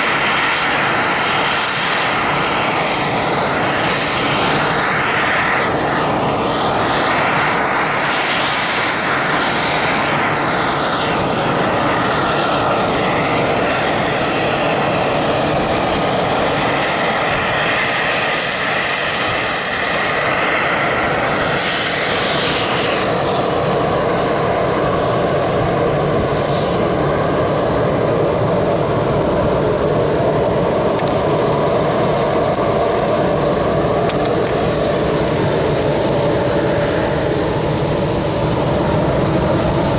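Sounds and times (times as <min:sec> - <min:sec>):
jet engines roaring and whining: 0:00.0 - 0:39.9.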